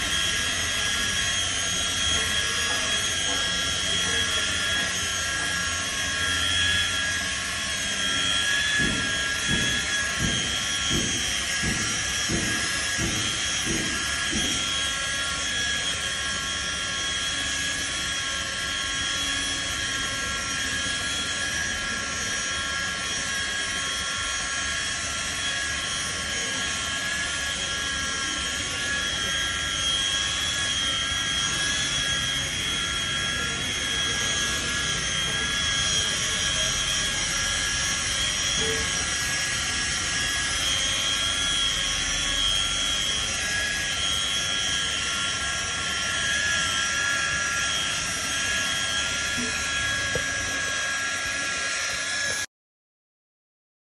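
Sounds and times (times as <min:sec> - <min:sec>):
rotary polisher whining: 0:00.0 - 0:52.5.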